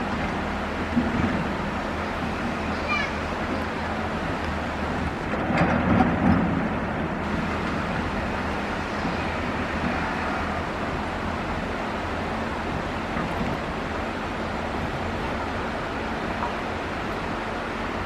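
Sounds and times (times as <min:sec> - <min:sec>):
engine clattering: 0:00.0 - 0:18.0
excavator diesel engine running: 0:00.0 - 0:18.0.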